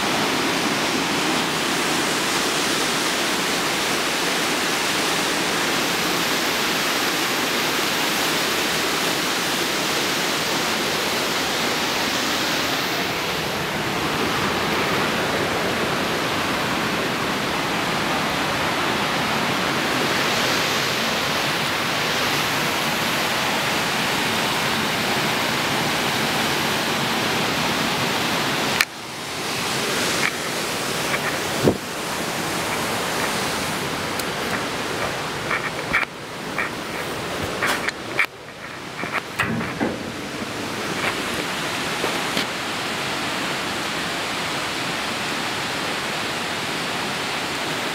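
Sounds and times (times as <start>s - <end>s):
river white water rushing: 0.0s - 47.9s.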